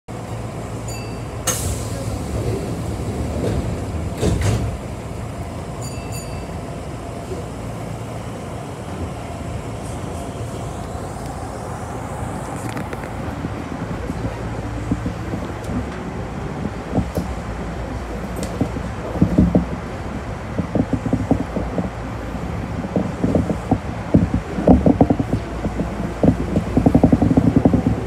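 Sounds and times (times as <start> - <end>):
train hum: 0.0 - 28.0.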